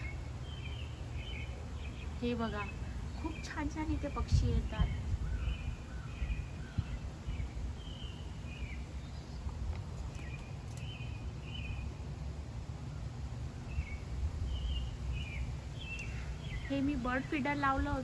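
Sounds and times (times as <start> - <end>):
birds chirping: 0.0 - 18.0
steady low rumble: 0.0 - 18.0.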